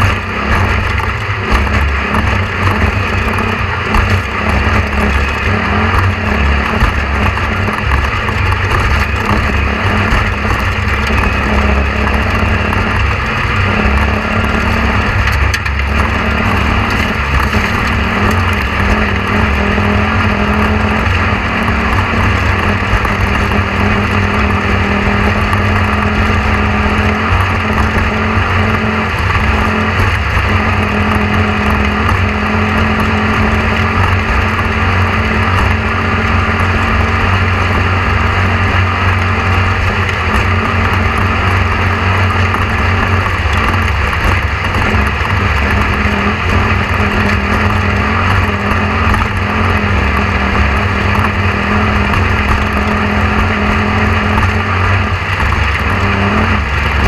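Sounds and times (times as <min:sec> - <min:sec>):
loud mechanical drone: 0:00.0 - 0:57.0.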